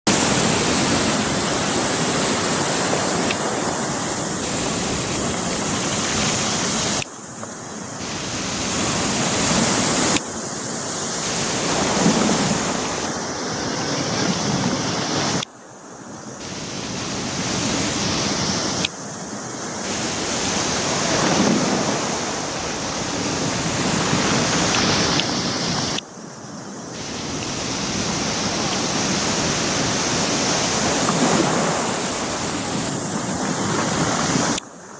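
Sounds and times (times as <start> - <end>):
wind on microphone: 0.0 - 15.5, 16.1 - 34.6
sea surf on pebbly shore: 0.0 - 34.9.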